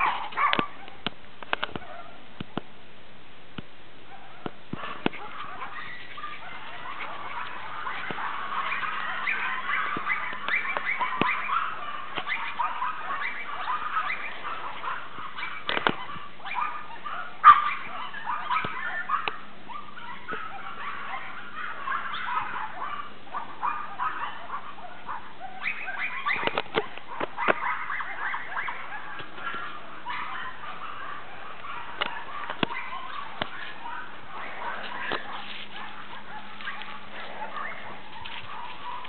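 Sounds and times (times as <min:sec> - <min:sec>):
puppy whimpering and yapping: 0:05.2 - 0:23.0, 0:23.6 - 0:39.0.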